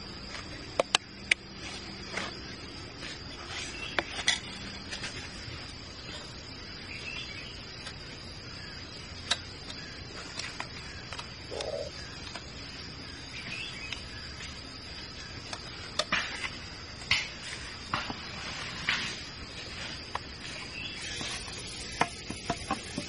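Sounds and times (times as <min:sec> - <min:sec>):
insect chirring: 0:00.0 - 0:23.0.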